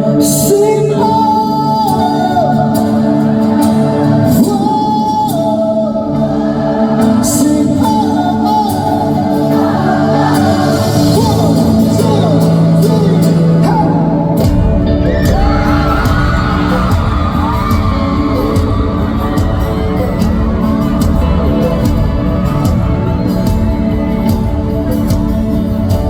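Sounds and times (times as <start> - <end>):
live folk-pop band: 0.0 - 26.0
person singing: 0.0 - 26.0.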